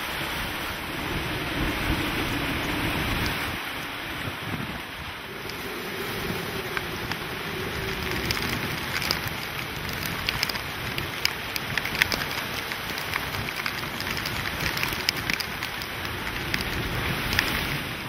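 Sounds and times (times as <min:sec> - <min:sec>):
hurricane wind and rain rushing: 0:00.0 - 0:18.0
raindrops ticking on microphone: 0:00.0 - 0:18.0.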